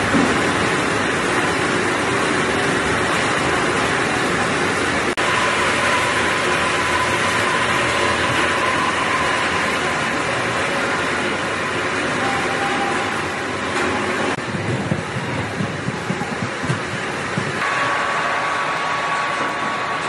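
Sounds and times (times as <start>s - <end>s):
machine motors running: 0.0s - 20.0s
steady machine whine: 0.0s - 20.0s
water spraying and churning: 0.0s - 20.0s.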